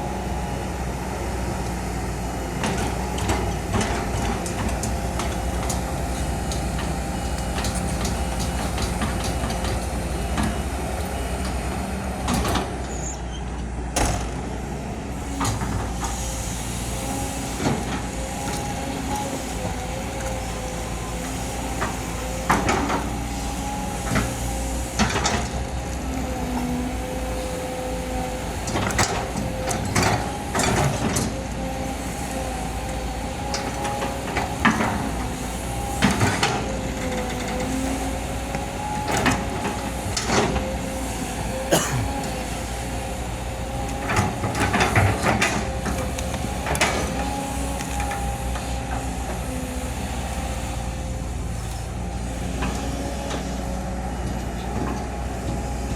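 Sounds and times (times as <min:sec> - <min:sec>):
excavator engine and hydraulic drone: 0:00.0 - 0:55.9.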